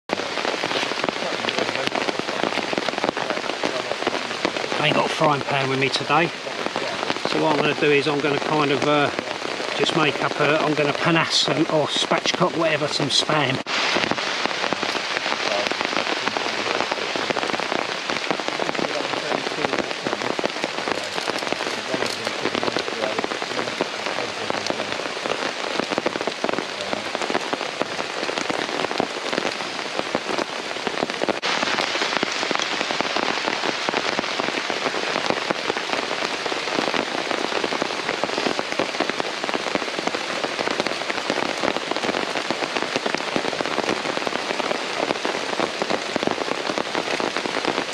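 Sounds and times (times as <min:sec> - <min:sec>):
steady rain falling: 0:00.1 - 0:47.9.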